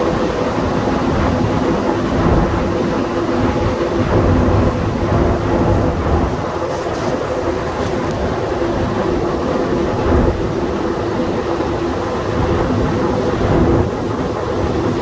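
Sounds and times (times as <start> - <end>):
constant motor tones: 0.0 - 15.0
train rumbling through tunnel: 0.0 - 15.0.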